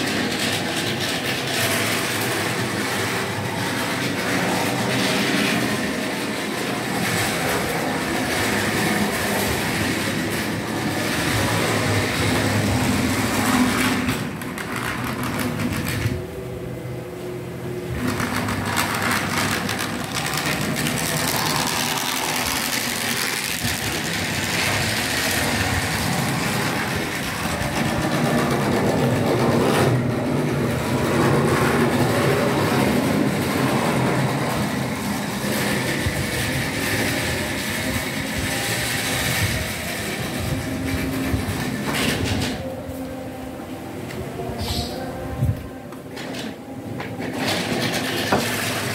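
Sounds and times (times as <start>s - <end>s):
wheels rattling on rails: 0.0s - 48.9s.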